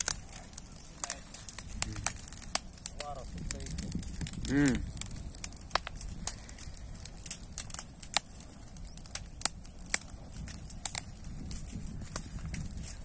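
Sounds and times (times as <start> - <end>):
burning sugarcane crackling: 0.0 - 13.0.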